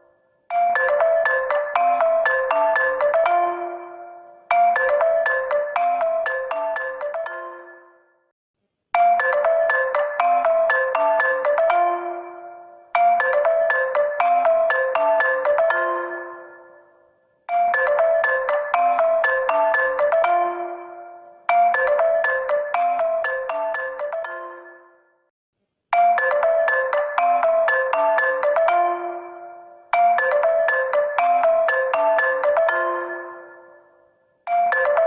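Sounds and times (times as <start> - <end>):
phone ringtone mallet melody: 0.0 - 8.3, 9.0 - 25.3, 25.9 - 35.0.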